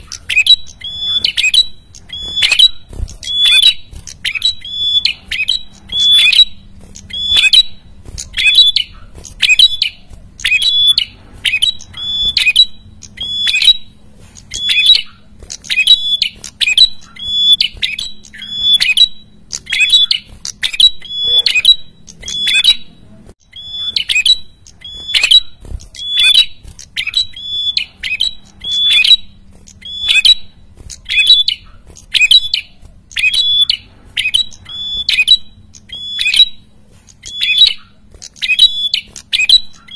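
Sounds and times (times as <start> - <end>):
caged bird calling sharp high notes: 0.0 - 39.9.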